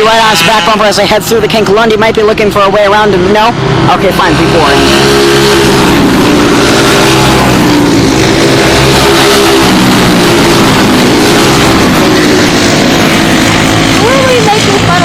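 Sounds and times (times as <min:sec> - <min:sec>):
racing go-kart engines: 0:00.0 - 0:15.0.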